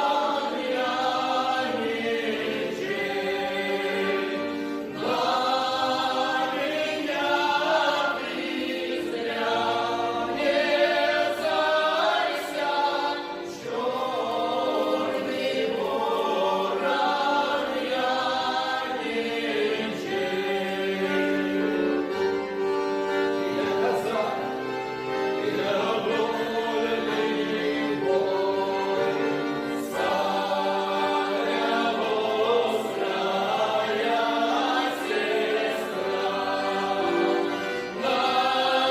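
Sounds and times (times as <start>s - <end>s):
vocal ensemble singing: 0.0s - 22.7s, 23.5s - 38.9s.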